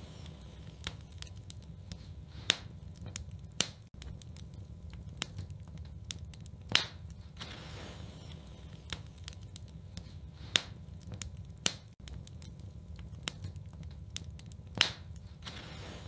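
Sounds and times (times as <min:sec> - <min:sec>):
low steady rumble: 0:00.0 - 0:16.0
sharp pops of fire: 0:00.0 - 0:16.0
wood fire crackling: 0:00.0 - 0:16.0.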